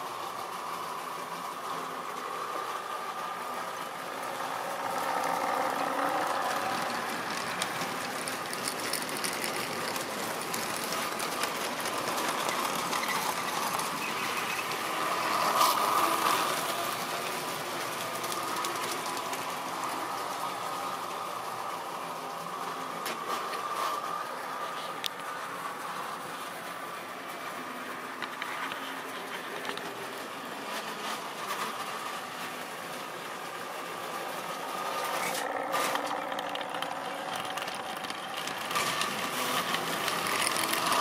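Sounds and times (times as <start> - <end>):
wheels ticking over rail joints: 0.4 - 25.6, 31.8 - 41.0
model train motor whining: 0.9 - 25.4, 28.2 - 41.0.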